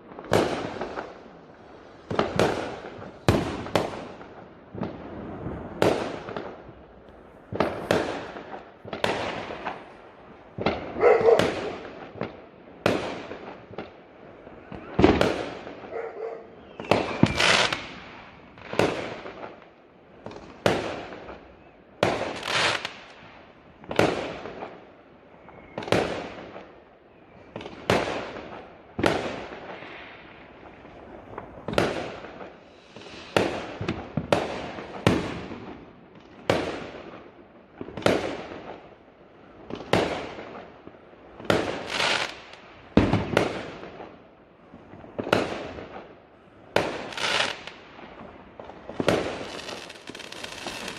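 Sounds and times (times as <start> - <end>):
fireworks bangs: 0.0 - 24.8, 27.5 - 38.9, 39.6 - 50.9.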